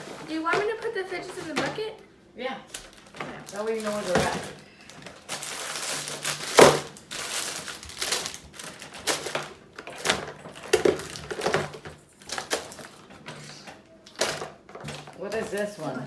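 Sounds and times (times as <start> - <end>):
plastic toys clattering into bucket: 0.0 - 2.0, 2.8 - 16.0.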